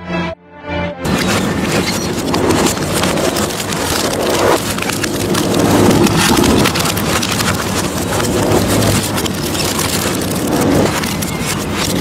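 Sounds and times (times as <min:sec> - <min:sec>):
shredder crunching scrap metal: 0:01.0 - 0:12.0.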